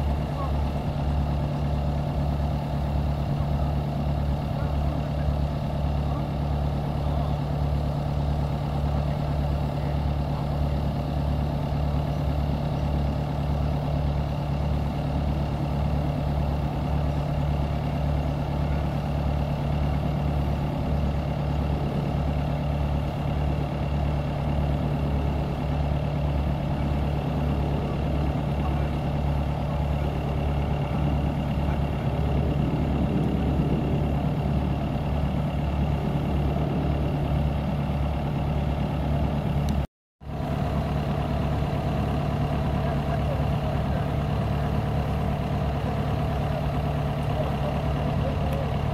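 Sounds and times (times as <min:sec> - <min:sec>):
heavy drilling engine throbbing: 0:00.0 - 0:48.9.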